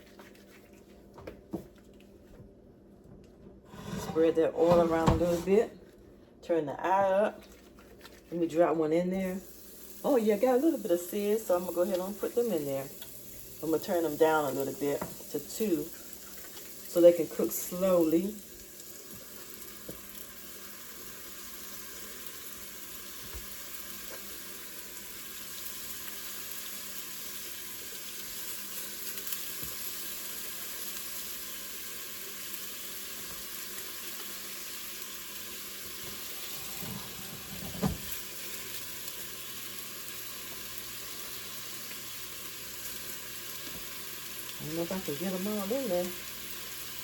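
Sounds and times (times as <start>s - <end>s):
food sizzling in hot oil: 9.2s - 47.0s.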